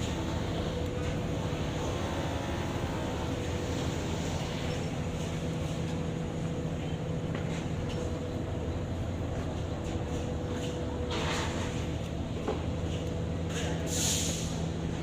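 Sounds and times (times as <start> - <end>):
machine humming: 0.0 - 13.4.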